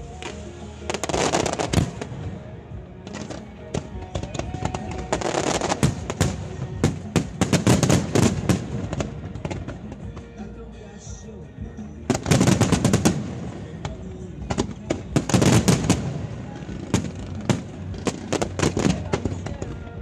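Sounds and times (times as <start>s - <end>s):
fireworks bursting and crackling: 0.0s - 10.4s, 12.0s - 20.0s
music playing: 0.0s - 20.0s.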